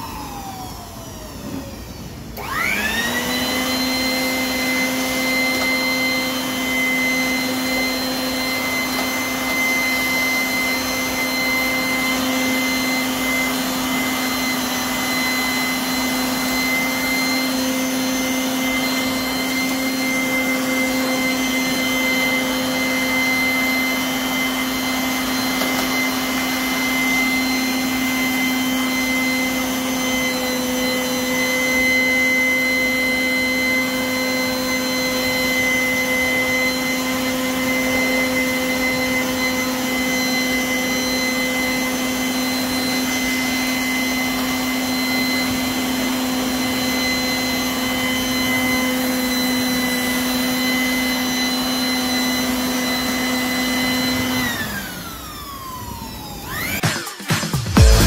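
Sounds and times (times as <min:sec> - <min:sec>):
electric blower motor whine: 0:00.0 - 0:58.0.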